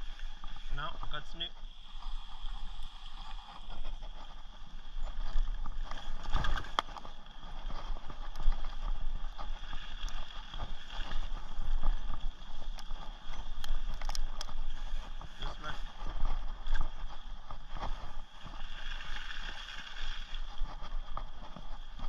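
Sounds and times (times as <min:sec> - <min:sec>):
mountain bike on dirt trail: 0:00.0 - 0:22.0.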